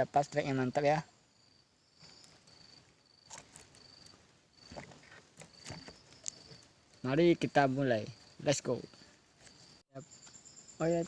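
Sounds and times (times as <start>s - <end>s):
insect chirping trill: 0.0s - 11.0s.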